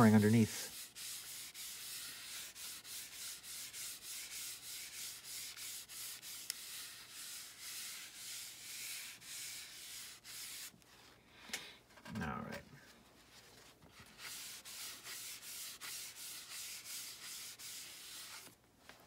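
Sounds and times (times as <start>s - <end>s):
towel rubbing over painted panel: 0.0s - 11.1s, 13.2s - 18.6s.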